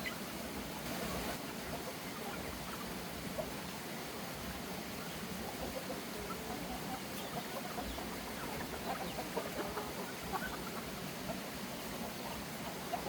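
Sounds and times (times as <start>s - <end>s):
background hiss: 0.0s - 13.0s
chickens clucking: 0.0s - 13.0s.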